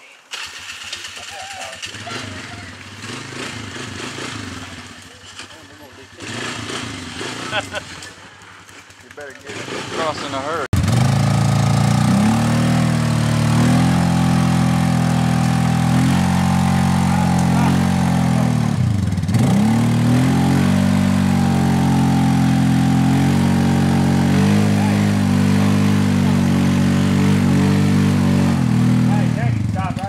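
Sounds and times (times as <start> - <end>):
engine revving high: 0.4 - 5.0, 6.1 - 8.1, 9.4 - 30.0.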